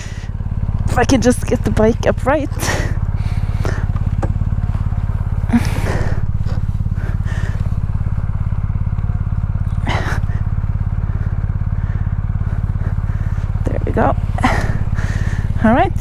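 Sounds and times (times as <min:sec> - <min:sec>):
heavy breaths of effort: 0:00.0 - 0:00.5, 0:02.6 - 0:15.6
motorcycle engine idling: 0:00.0 - 0:16.0.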